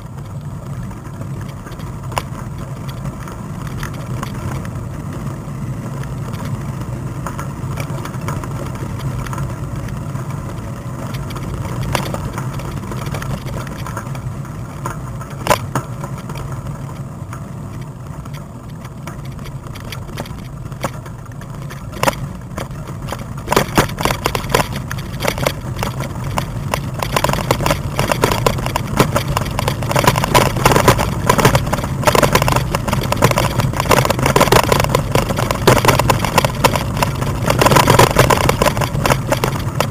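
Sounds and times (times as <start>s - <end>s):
bike ride rumble: 0.0s - 39.9s
rattle of clicks and knocks: 0.0s - 39.9s.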